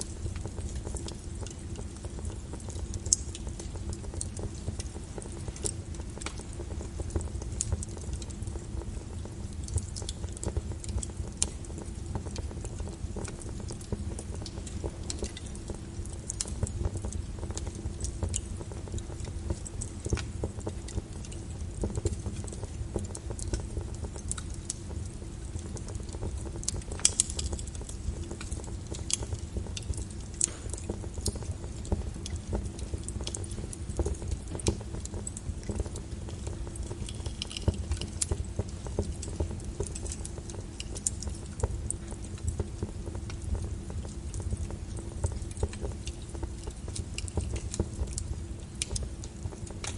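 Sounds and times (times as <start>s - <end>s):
low rumble of flames: 0.0s - 49.9s
wood fire crackling and popping: 0.0s - 49.9s.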